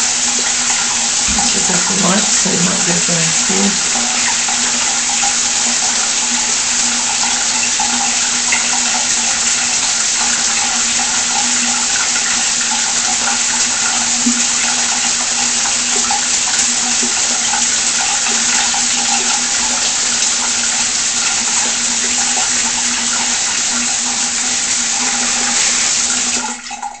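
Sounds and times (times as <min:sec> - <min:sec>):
shower water spraying: 0:00.0 - 0:27.0.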